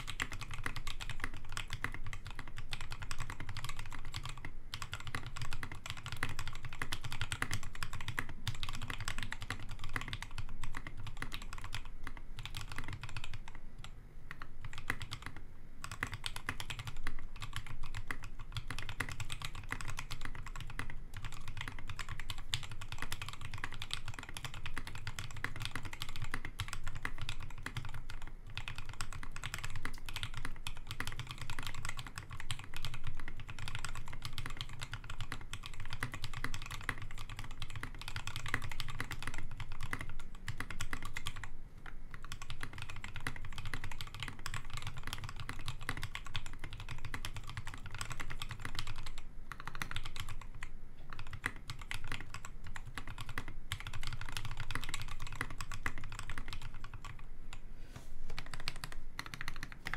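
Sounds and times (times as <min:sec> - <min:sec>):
fast mechanical keyboard typing: 0:00.0 - 0:13.6, 0:14.3 - 0:57.3, 0:58.4 - 0:59.9.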